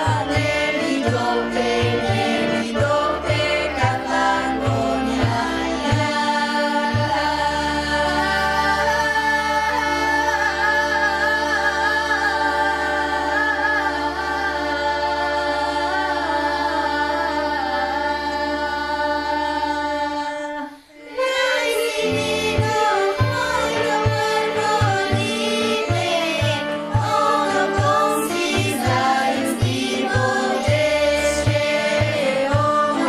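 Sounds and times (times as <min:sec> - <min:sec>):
girls choir singing folk song: 0:00.0 - 0:33.0.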